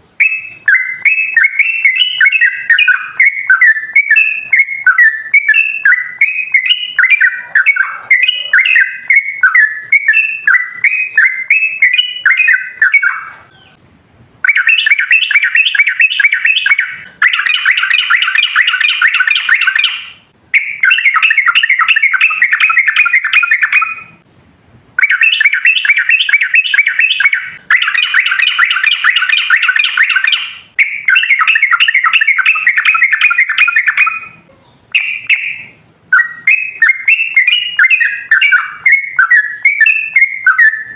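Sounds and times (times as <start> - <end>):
bulbul singing: 0.0 - 13.8, 14.4 - 24.2, 25.0 - 40.9.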